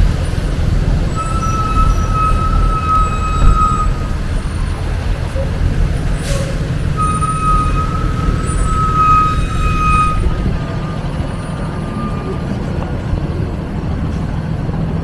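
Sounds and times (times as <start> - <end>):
heavy vehicle engine rumbling: 0.0 - 15.0
street traffic: 0.0 - 15.0.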